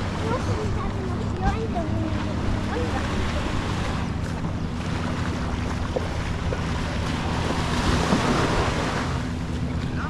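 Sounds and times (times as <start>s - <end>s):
boat engine running: 0.0s - 10.0s
waves washing on shore: 0.0s - 10.0s.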